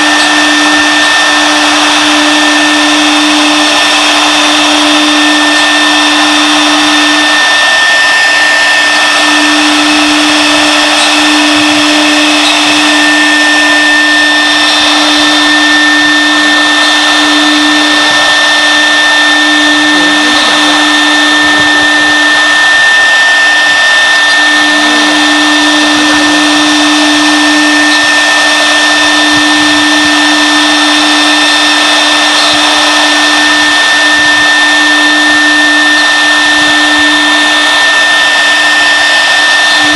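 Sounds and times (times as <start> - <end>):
router spindle high whine: 0.0 - 39.9.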